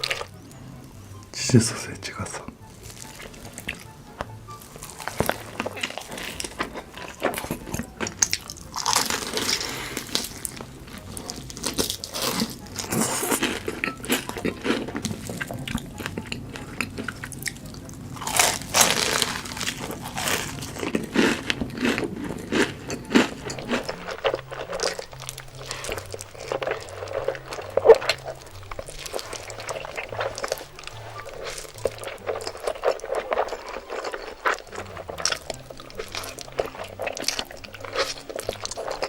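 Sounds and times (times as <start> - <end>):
crunchy chewing of food: 0.0 - 39.0.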